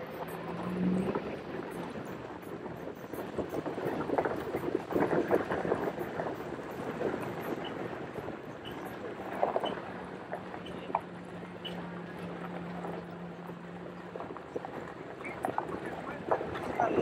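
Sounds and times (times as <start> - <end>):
vehicle rattles and knocks: 0.0 - 17.0.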